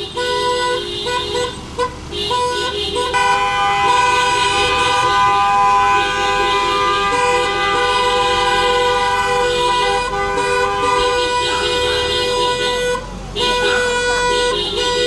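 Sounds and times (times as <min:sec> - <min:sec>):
car horns blasting: 0:00.0 - 0:15.0.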